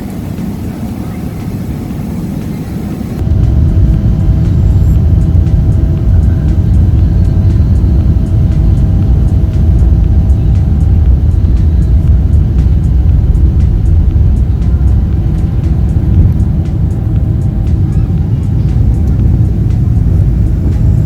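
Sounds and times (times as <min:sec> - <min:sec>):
vehicle interior rumble: 0:00.0 - 0:21.0.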